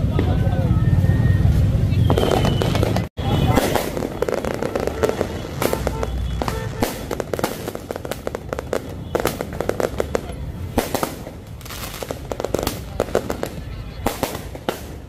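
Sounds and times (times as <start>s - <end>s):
fireworks popping and cracking: 1.6s - 15.0s
loud firework bangs: 2.0s - 15.0s.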